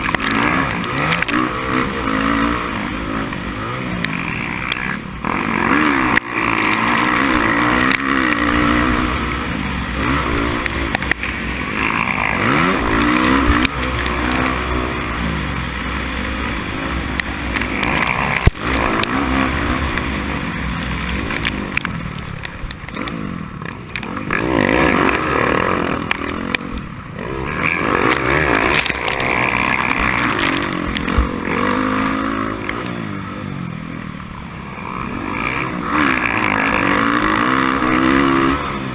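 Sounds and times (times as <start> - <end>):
race motorcycle engine revving: 0.0 - 38.9.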